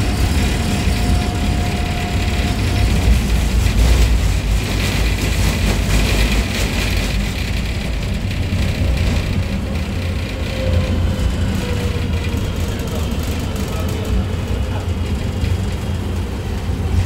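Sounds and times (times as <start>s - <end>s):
tram wheels rumbling: 0.0s - 17.0s.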